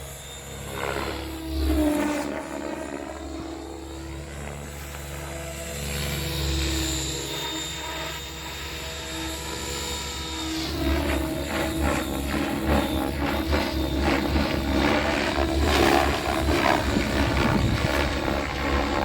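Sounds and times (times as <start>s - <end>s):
rc helicopter rotor chop and whine: 0.0s - 19.0s.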